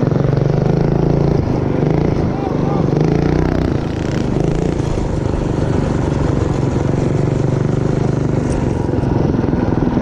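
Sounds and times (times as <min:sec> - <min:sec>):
mini bike engine running: 0:00.0 - 0:10.0.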